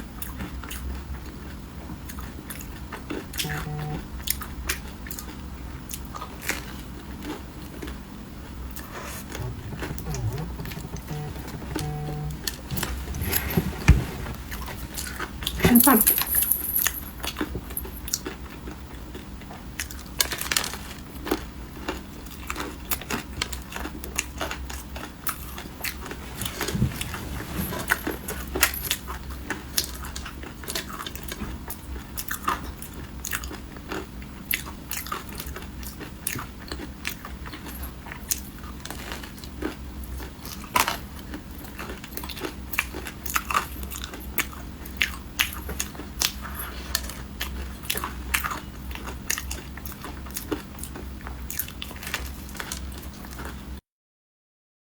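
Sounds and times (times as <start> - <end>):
chewing crunchy food: 0.0 - 13.6, 14.4 - 16.2, 16.8 - 53.8.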